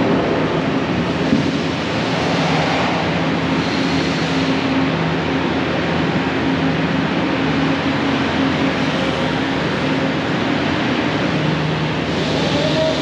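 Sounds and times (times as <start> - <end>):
city traffic: 0.0 - 13.0
construction machinery: 0.0 - 13.0
low engine hum: 0.0 - 13.0.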